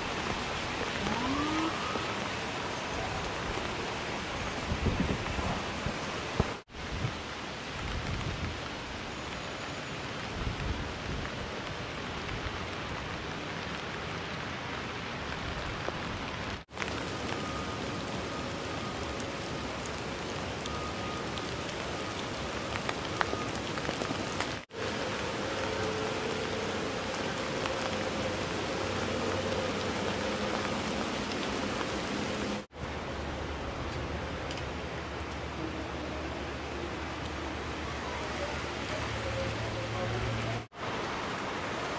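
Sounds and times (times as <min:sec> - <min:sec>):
rain on wet ground: 0:00.0 - 0:41.9.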